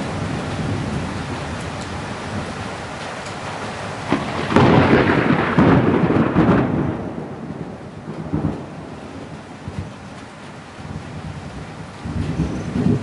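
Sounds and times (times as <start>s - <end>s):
rain hissing: 0.0s - 13.0s
thunder crack and rumble: 0.0s - 13.0s.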